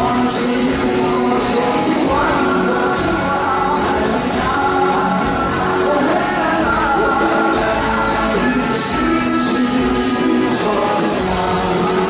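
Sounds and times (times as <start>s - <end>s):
acoustic and electric guitars: 0.0s - 12.0s
men singing rock song: 0.0s - 12.0s.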